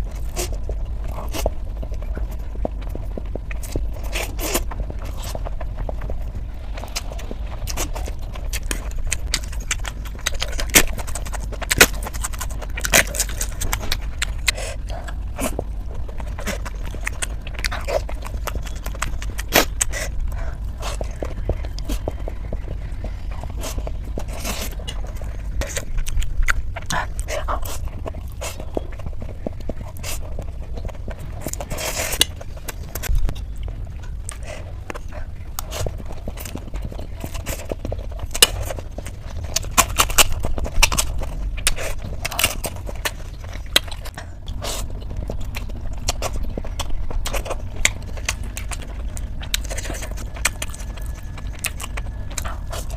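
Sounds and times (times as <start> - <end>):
steady low hum: 0.0 - 52.9
wet chewing and smacking: 0.0 - 52.9.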